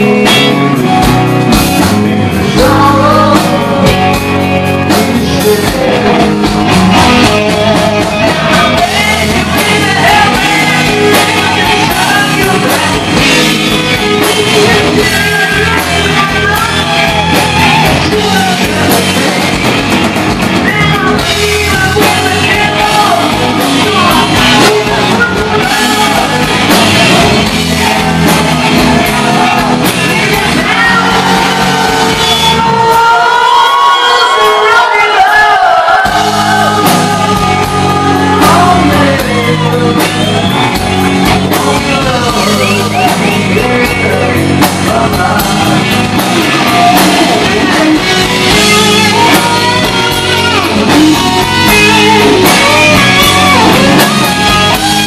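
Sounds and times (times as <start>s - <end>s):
bass guitar: 0.0s - 55.0s
drum kit: 0.0s - 55.0s
electric guitar: 0.0s - 55.0s
man singing: 0.0s - 55.0s.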